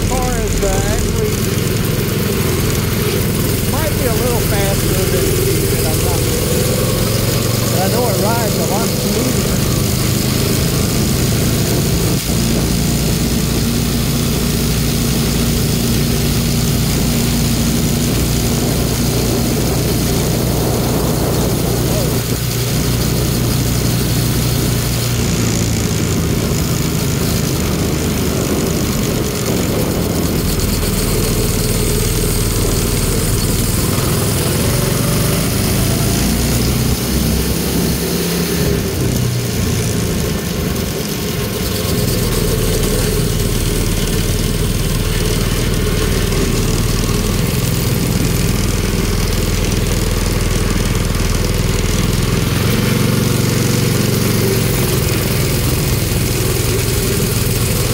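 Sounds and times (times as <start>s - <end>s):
go-kart engine running: 0.0s - 57.9s.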